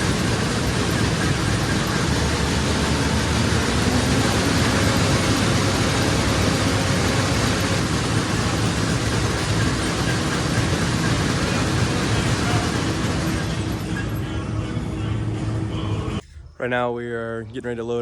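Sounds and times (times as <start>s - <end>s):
combine harvester running: 0.0s - 16.2s.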